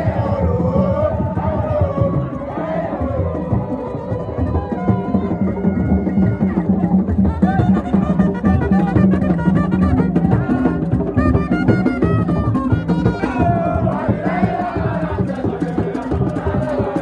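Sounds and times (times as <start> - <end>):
drums and percussion rhythm: 0.0 - 17.0.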